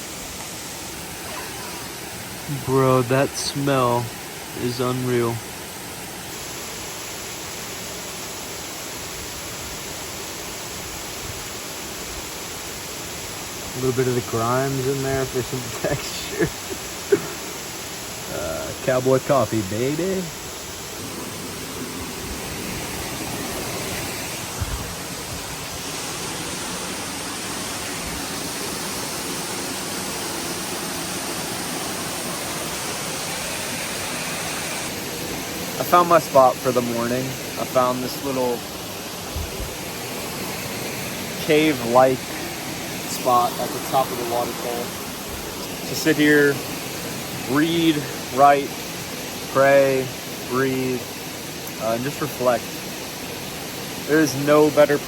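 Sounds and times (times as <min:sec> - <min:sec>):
waterfall rushing: 0:00.0 - 0:06.9, 0:12.6 - 0:55.0.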